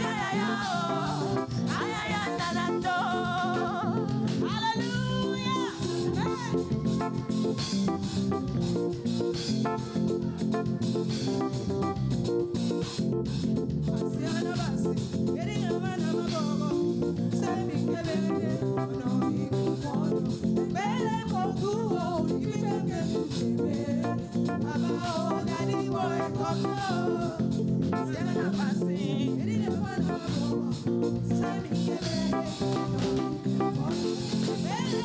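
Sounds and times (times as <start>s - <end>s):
person singing: 0.0s - 7.4s, 14.1s - 35.0s
bass guitar: 0.0s - 35.0s
electric guitar: 0.0s - 35.0s.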